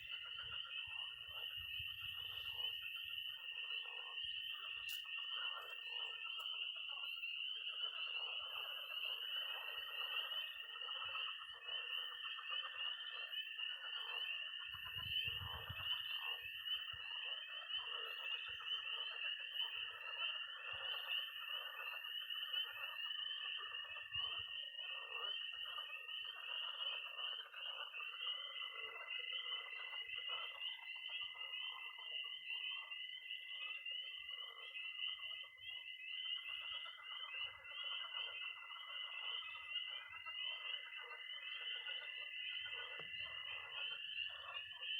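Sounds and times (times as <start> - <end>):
frogs croaking: 0.0 - 44.9
spring peepers chorus: 0.0 - 44.9
toad high-pitched trill: 0.0 - 44.9.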